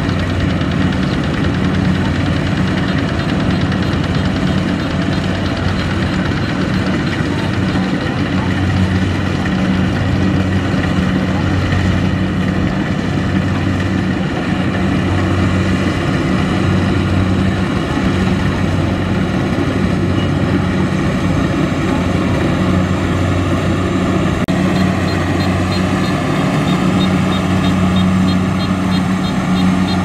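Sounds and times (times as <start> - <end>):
dense mechanical noise: 0.0 - 30.0
diesel engine under load: 0.0 - 30.0.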